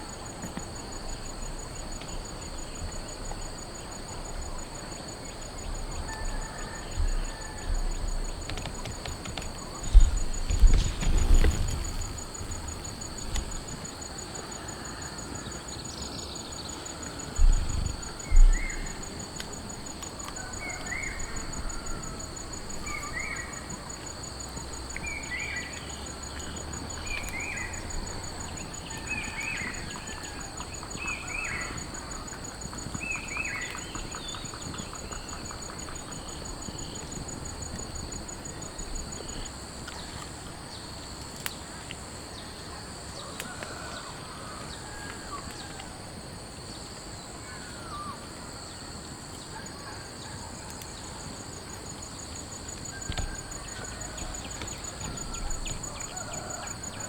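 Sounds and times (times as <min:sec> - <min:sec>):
high insect drone: 0:00.0 - 0:49.1, 0:50.2 - 0:57.0.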